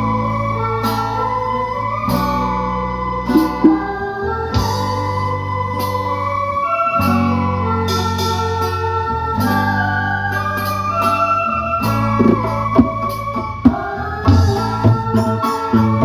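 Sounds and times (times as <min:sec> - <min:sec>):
bass line: 0:00.0 - 0:16.0
electronic keyboard organ chords: 0:00.0 - 0:16.0.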